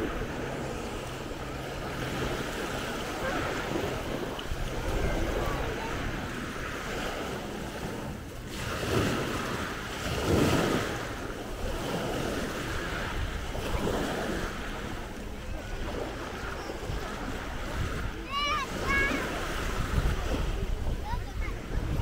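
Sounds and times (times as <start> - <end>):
small waves breaking on sand: 0.0 - 22.0
wind rumbling on microphone: 0.0 - 22.0.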